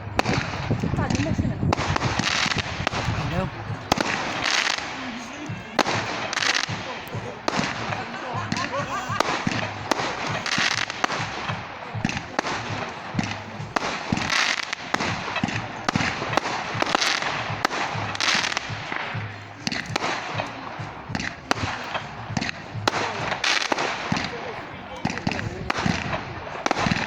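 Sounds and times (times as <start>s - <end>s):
crackling hiss: 0.0s - 27.0s
fireworks bangs: 0.0s - 27.0s.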